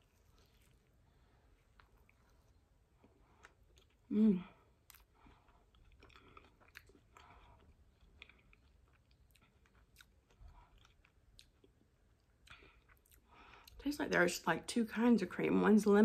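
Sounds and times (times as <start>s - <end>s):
person chewing: 0.0s - 13.8s.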